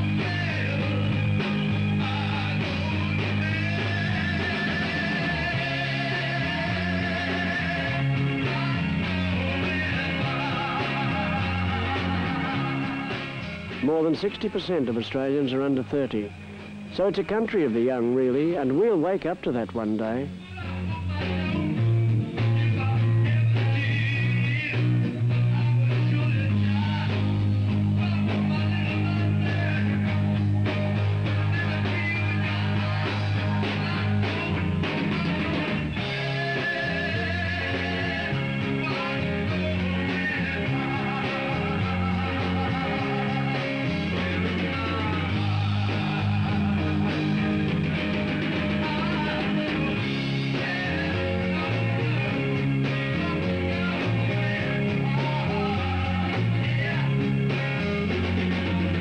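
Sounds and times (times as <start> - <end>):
bass line: 0.0 - 59.0
rock guitar: 0.0 - 59.0.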